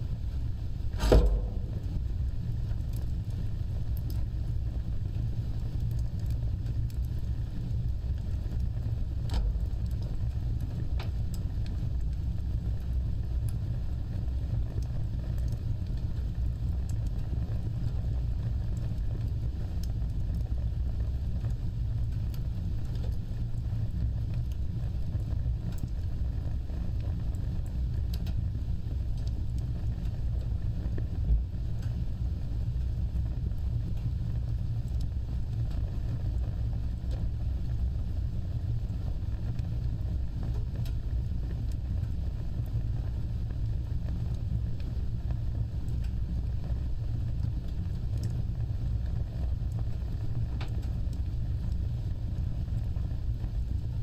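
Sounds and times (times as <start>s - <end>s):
fire crackling pops and snaps: 0.0s - 54.0s
flames rumbling: 0.0s - 54.0s.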